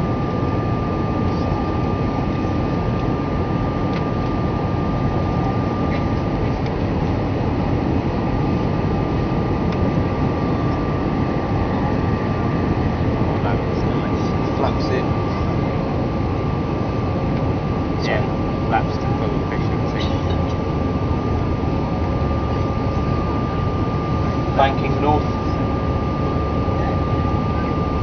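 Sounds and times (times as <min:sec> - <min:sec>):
aircraft cabin rumble: 0:00.0 - 0:28.0
thin steady hum: 0:00.0 - 0:28.0.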